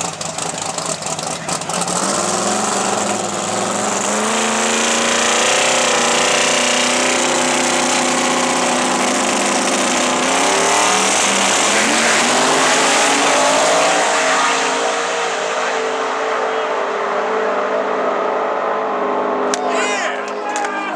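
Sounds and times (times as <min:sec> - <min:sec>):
loud racing engine running: 0:00.0 - 0:20.9.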